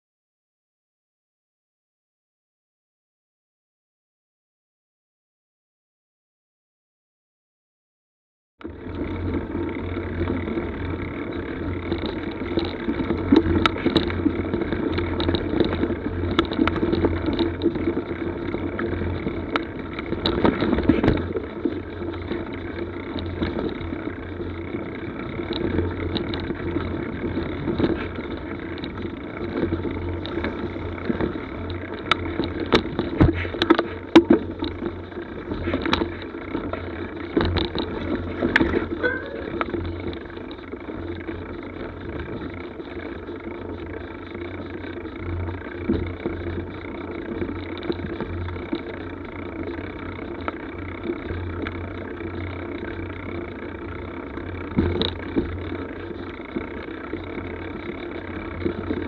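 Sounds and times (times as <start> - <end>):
bike tyres rumbling on dirt: 8.6 - 59.0
clicks and knocks from bike: 8.6 - 59.0.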